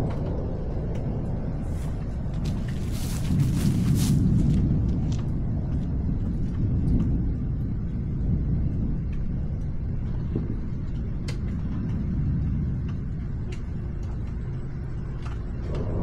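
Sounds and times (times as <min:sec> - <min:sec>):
distant thunder rumble: 0:00.0 - 0:16.0.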